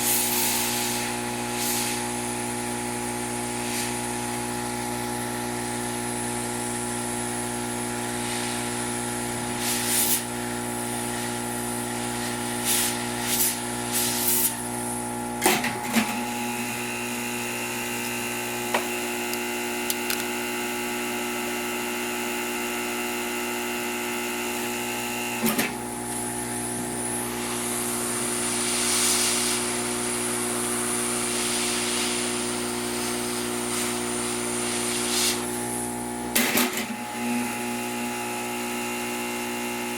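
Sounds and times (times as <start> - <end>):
hot air blower whining: 0.0 - 39.9.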